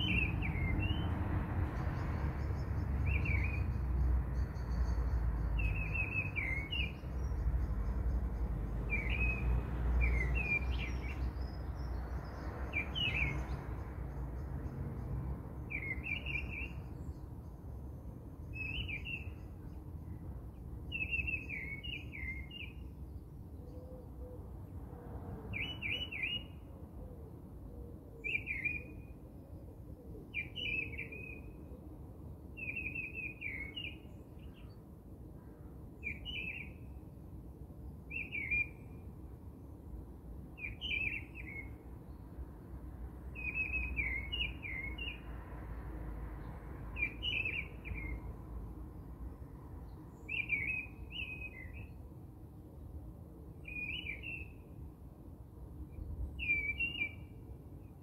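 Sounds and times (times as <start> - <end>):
songbird chirping: 0.0 - 24.4, 25.5 - 26.7, 28.2 - 29.2, 30.2 - 31.9, 32.5 - 34.9, 35.7 - 37.1, 38.1 - 39.7, 40.5 - 42.4, 43.2 - 52.2, 53.6 - 54.9, 55.8 - 58.0.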